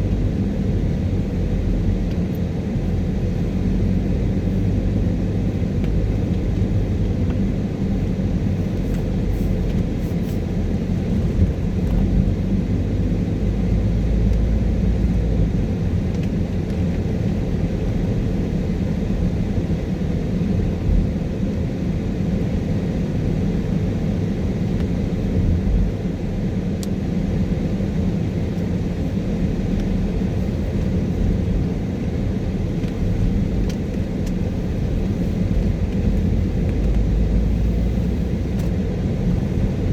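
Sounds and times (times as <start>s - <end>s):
engine and tyre rumble: 0.0s - 39.9s.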